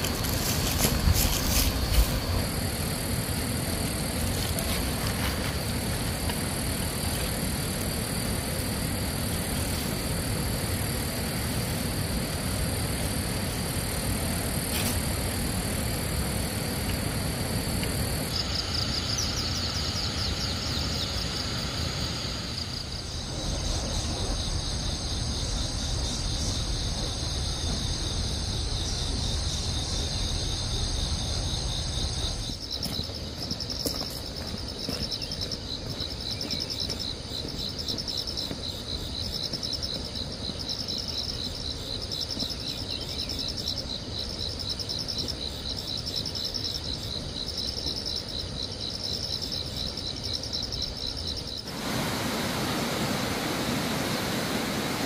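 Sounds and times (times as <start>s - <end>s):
insects singing and chirping: 0.0s - 55.0s.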